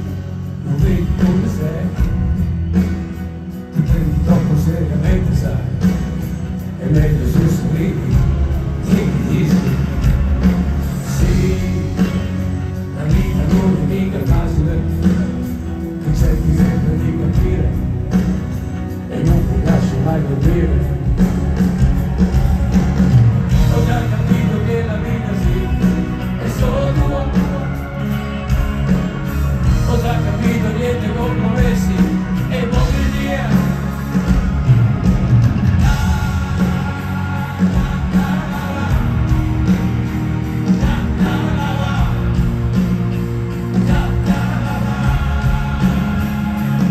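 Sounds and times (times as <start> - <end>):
man singing: 0.0 - 2.9, 3.5 - 22.5, 23.4 - 34.8, 35.8 - 46.9
live rock band: 0.0 - 46.9.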